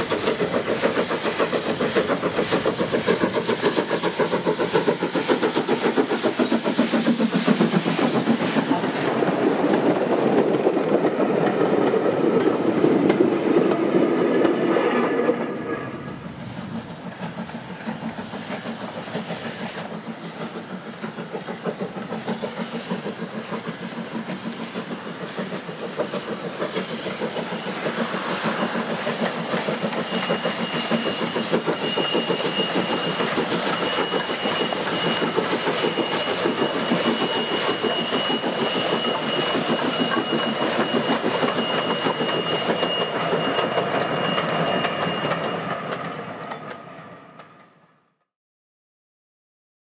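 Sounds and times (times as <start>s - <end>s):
steam locomotive exhaust beating: 0.0s - 47.7s
clack of railway carriages: 0.0s - 48.1s.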